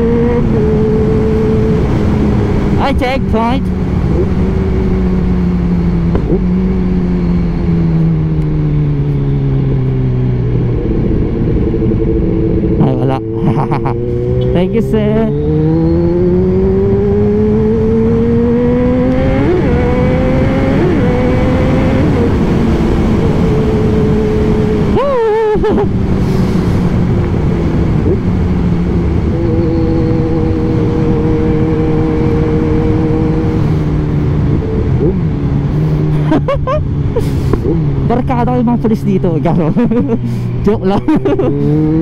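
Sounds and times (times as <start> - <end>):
motorcycle engine accelerating: 0.0 - 42.0
wind noise: 0.0 - 42.0.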